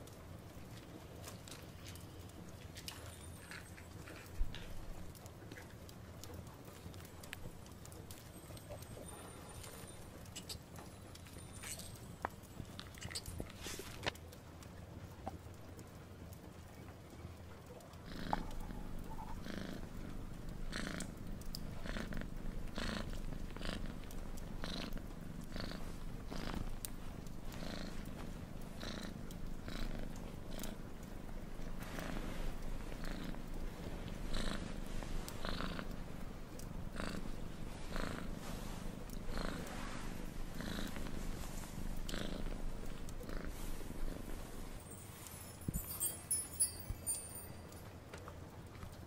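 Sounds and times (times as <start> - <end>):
cat purring: 0.1 - 47.6.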